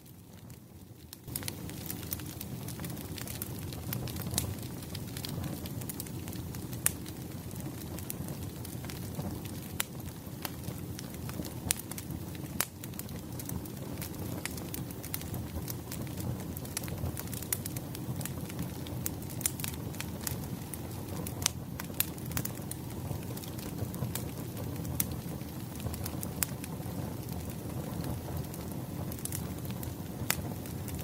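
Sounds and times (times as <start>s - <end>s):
bonfire crackling and popping: 0.0s - 31.0s.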